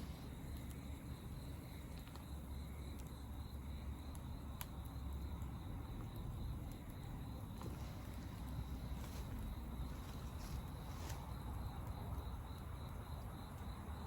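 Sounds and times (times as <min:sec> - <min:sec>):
campfire crackling: 0:00.0 - 0:14.0
cricket trilling: 0:00.0 - 0:14.0.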